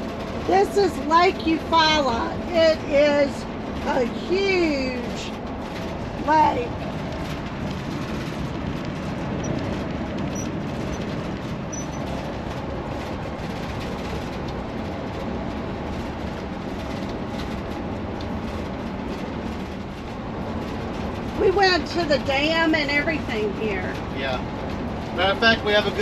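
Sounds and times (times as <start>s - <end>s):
vehicle road and engine noise: 0.0s - 26.0s.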